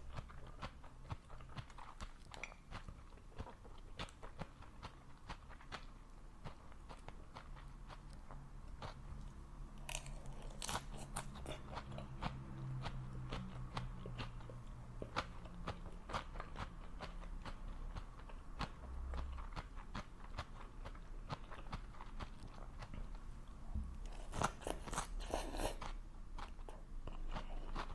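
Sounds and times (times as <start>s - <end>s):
person chewing crunchy food: 0.0s - 27.9s.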